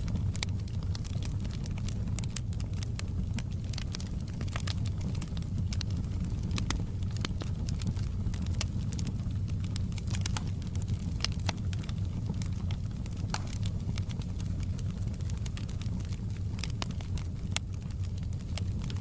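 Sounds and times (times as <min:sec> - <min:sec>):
fire crackling and popping: 0:00.0 - 0:19.0
fire low rumble: 0:00.0 - 0:19.0.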